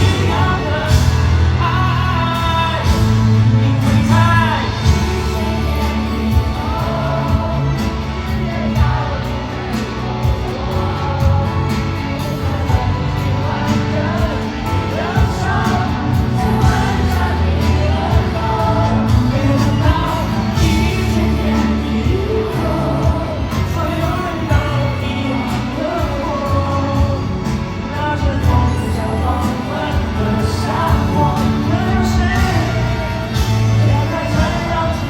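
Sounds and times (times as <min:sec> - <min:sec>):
live pop ballad with band: 0:00.0 - 0:35.0
person singing: 0:00.0 - 0:35.0.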